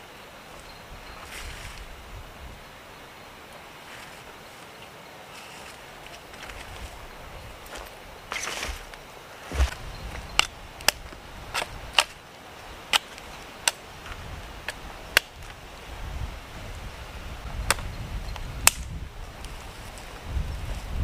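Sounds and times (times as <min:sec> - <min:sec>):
steady hiss: 0:00.0 - 0:21.0
wind rumble on microphone: 0:00.6 - 0:03.0, 0:06.3 - 0:21.0.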